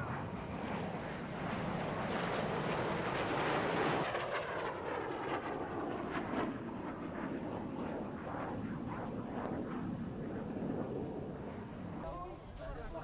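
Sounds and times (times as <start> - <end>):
jet aircraft engine rushing: 0.0 - 13.0.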